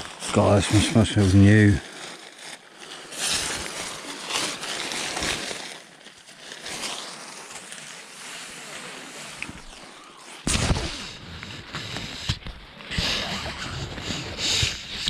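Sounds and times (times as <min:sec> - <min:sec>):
tarp rustling and crinkling: 0:00.0 - 0:15.0.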